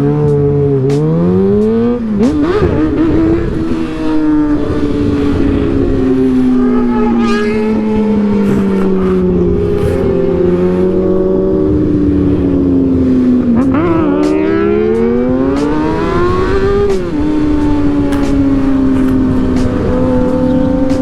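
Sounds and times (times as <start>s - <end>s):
vehicle engine accelerating: 0.0s - 21.0s.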